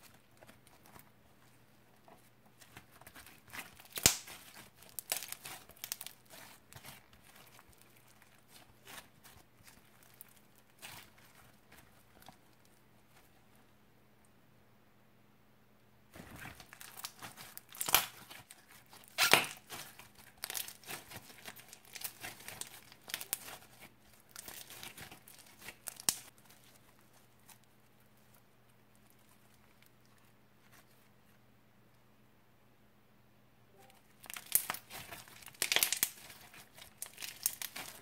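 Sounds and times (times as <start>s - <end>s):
slime crackling as kneaded: 0.0s - 13.6s, 16.1s - 31.1s, 33.8s - 38.0s.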